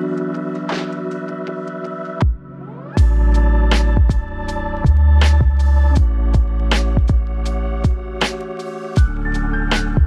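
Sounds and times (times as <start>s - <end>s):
electronic cinematic music: 0.0s - 10.0s.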